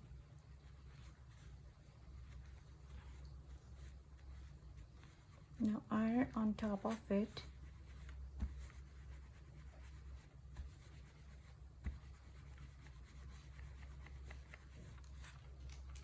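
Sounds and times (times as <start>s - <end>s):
clothes iron rubbing on fabric: 0.0s - 15.6s
steady low hum: 0.0s - 16.0s.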